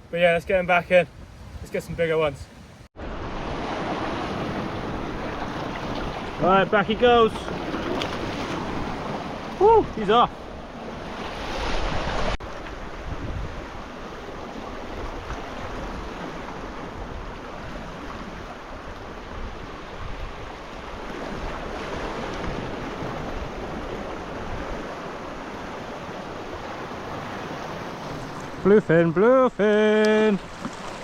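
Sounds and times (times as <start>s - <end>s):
wind rumbling on microphone: 1.1s - 28.7s
sea waves washing in: 1.2s - 31.0s.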